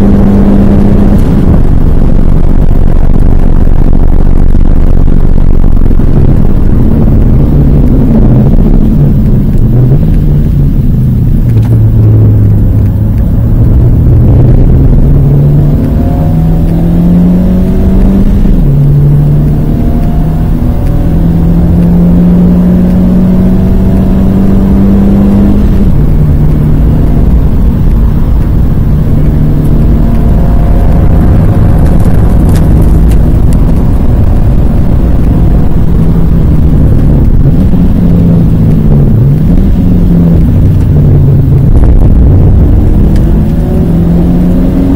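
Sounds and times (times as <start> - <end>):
car engine revving: 0.0 - 44.9
road and tyre noise: 0.0 - 44.9.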